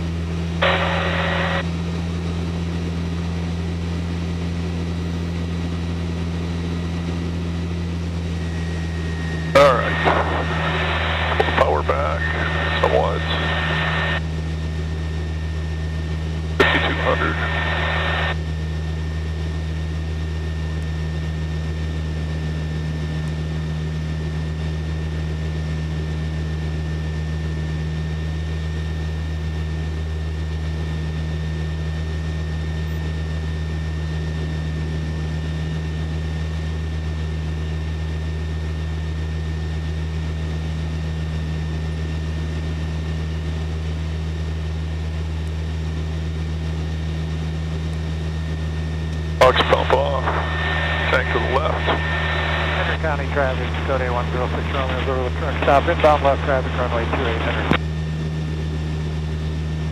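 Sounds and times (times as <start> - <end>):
light aircraft engine drone: 0.0 - 59.9.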